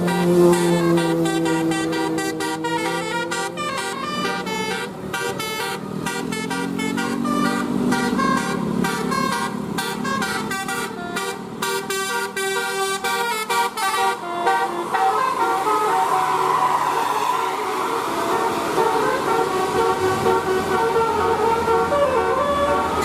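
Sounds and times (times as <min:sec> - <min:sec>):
bus air horn melody: 0:00.0 - 0:23.0
bus engine running: 0:00.0 - 0:23.0.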